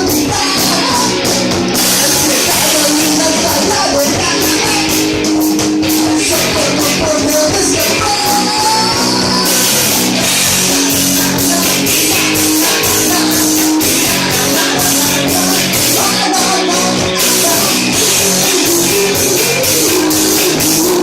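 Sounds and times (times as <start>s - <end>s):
drum kit beat: 0.0s - 21.0s
electric guitar: 0.0s - 21.0s.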